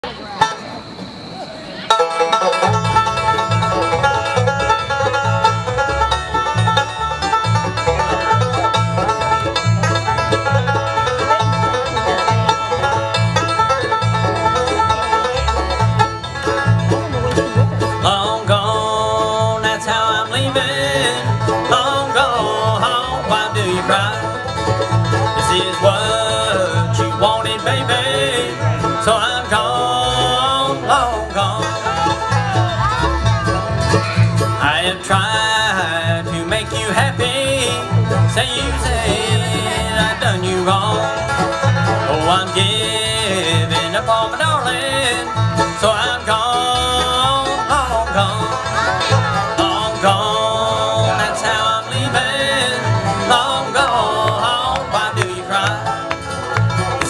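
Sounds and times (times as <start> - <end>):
banjo: 0.0 - 0.9, 1.7 - 57.0
bluegrass band playing: 0.0 - 57.0.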